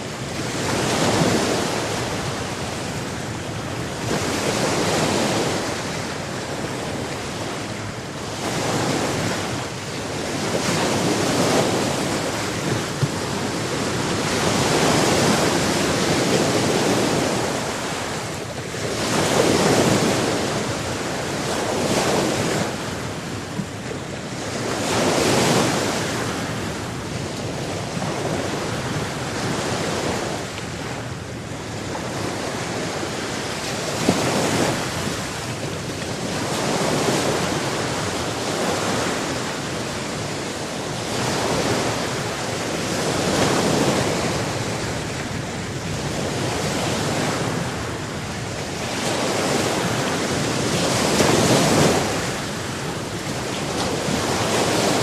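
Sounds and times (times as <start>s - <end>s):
sea waves breaking ashore: 0.0s - 55.0s.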